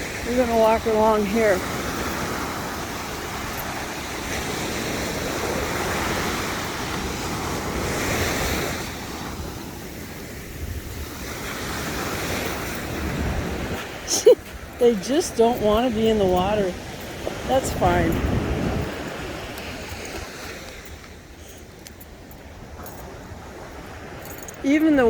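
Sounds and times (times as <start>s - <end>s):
ocean surf washing up beach: 0.0s - 25.0s
wind buffeting microphone: 0.0s - 25.0s.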